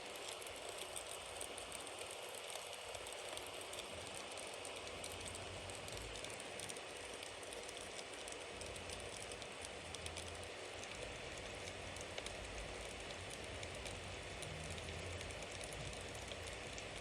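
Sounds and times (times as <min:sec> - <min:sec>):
bonfire hissing and crackling: 0:00.0 - 0:17.0.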